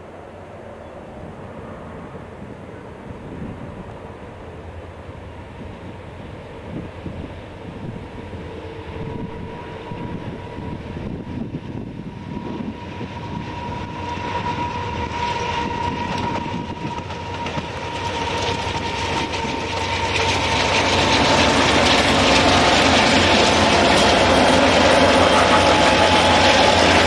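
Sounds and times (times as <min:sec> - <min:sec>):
diesel locomotive engines: 0:00.0 - 0:27.0
train wheels rolling on rails: 0:03.3 - 0:27.0.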